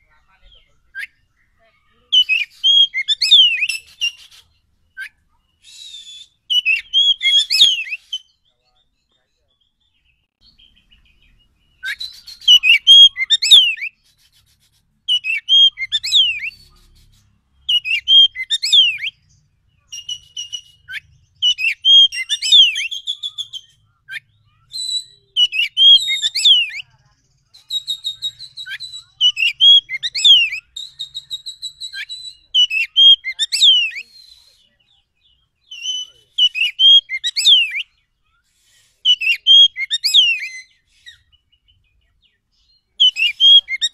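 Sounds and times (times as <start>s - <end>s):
bird singing whistled phrases: 0.5s - 8.7s, 9.6s - 14.0s, 15.1s - 27.0s, 27.6s - 43.9s.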